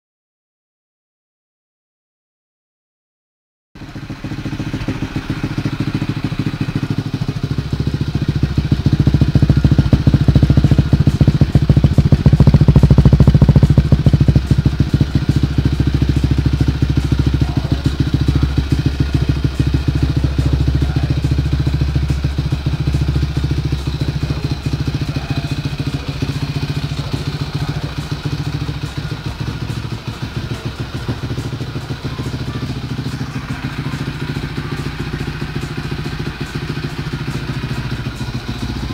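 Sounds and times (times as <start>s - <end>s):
quad engine running: 3.8s - 38.9s.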